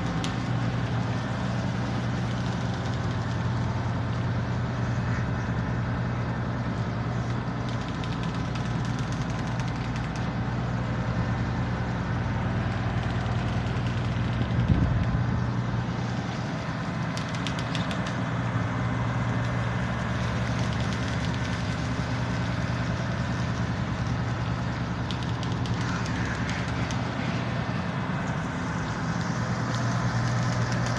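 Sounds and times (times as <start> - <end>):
engine humming: 0.0 - 30.9.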